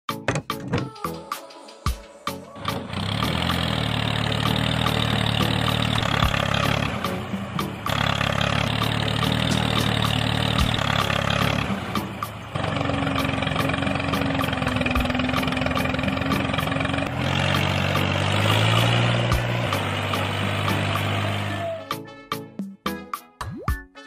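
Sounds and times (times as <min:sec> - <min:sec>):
tractor engine running: 0:02.3 - 0:21.8.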